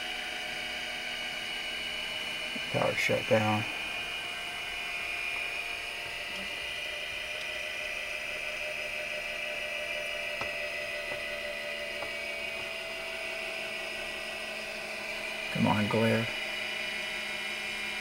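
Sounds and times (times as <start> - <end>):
high-pitched mechanical whine: 0.0 - 18.0.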